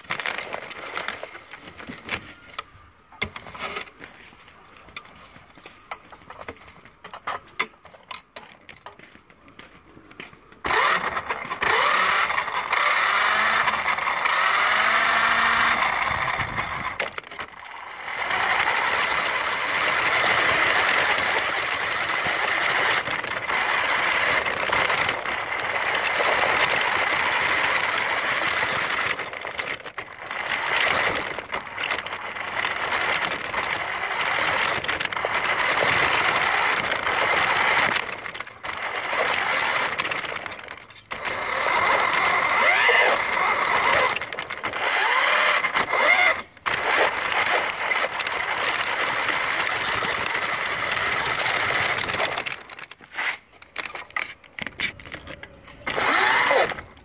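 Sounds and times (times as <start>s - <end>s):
toy car electric motor whirring: 0.0s - 4.0s, 10.6s - 57.0s.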